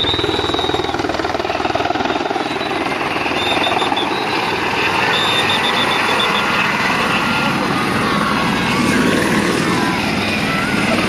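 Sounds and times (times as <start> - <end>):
helicopter rotor chopping: 0.0 - 11.0.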